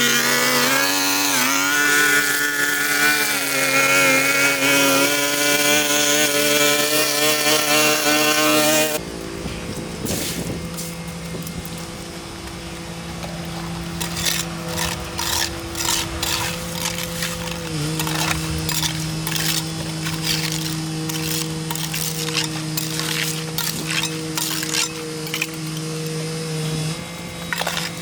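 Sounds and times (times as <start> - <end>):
power tool motor whine: 0.0 - 9.0, 10.0 - 28.0.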